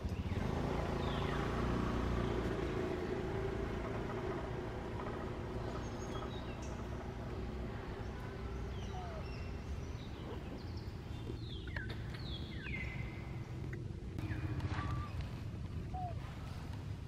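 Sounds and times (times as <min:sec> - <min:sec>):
high chirping calls: 0:00.1 - 0:03.2, 0:05.4 - 0:16.6.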